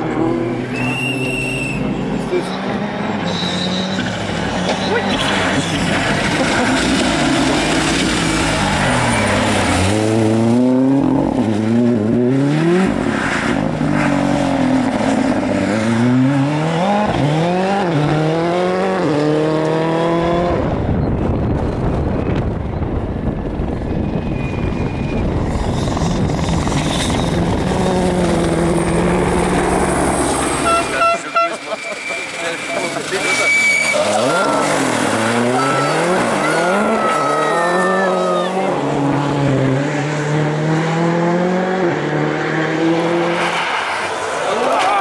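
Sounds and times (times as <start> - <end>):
rally car engine revving: 0.0 - 22.7, 24.7 - 45.0.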